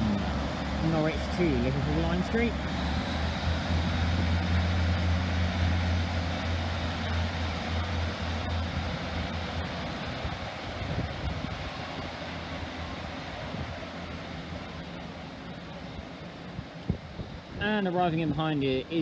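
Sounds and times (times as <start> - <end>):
train diesel engines droning: 0.0 - 19.0.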